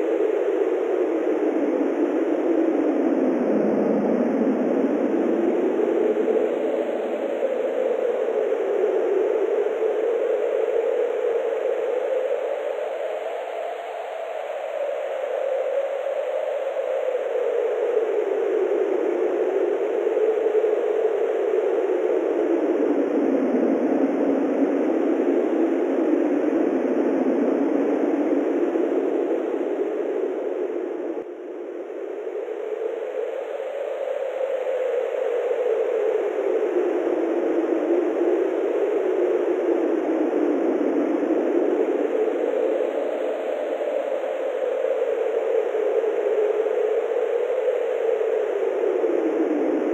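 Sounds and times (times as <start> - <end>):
wind over grassland: 0.0 - 49.9.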